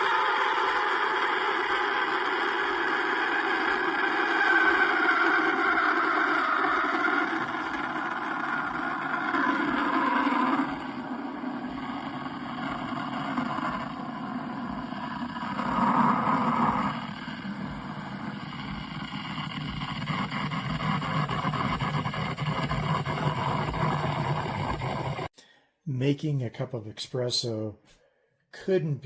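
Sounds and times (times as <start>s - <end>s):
espresso machine grinder running: 0.0s - 25.3s.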